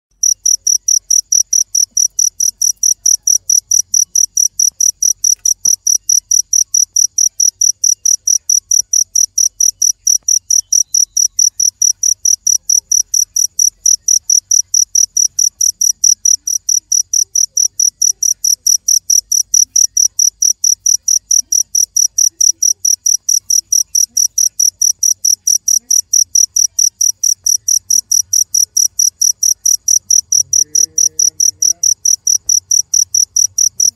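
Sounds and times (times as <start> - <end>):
cricket chirping: 0.2 - 33.9.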